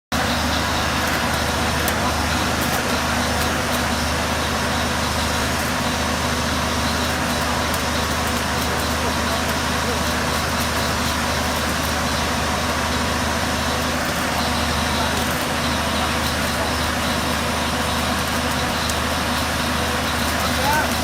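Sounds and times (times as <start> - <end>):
dense crackling hiss of welding: 0.2 - 21.0.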